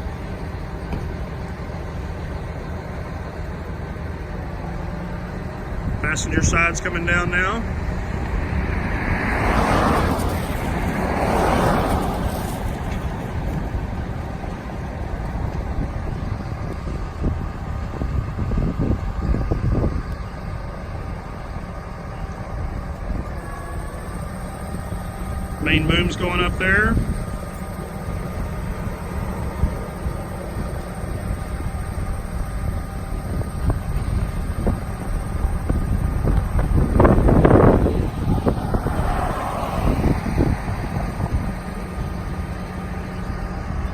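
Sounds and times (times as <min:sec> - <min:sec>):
diesel engine running: 0:00.0 - 0:43.9
rushing noise: 0:05.1 - 0:20.0, 0:22.6 - 0:43.6.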